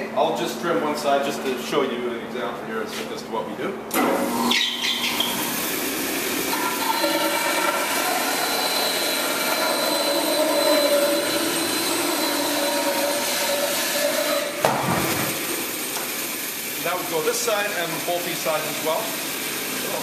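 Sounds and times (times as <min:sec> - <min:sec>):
bandsaw cutting wood: 0:04.0 - 0:20.0.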